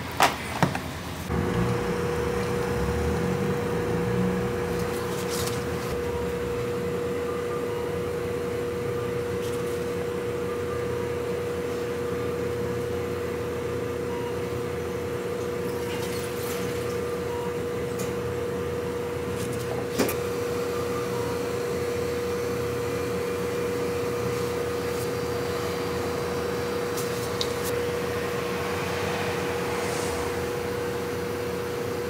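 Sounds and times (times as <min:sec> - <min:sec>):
machine hum with steady tone: 0:00.9 - 0:32.0.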